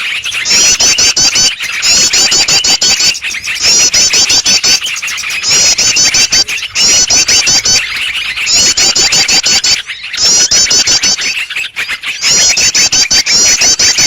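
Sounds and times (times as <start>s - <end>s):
rapid high curved bird notes: 0.0s - 14.0s
songbirds chattering: 0.0s - 14.0s.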